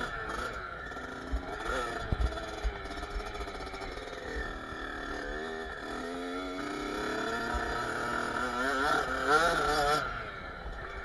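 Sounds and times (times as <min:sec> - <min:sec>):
two-stroke motorcycle engine: 0:00.0 - 0:11.0.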